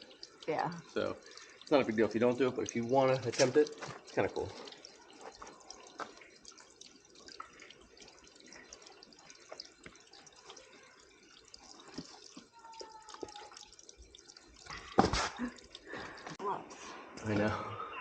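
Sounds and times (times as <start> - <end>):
water dripping among rocks: 0.0 - 16.4.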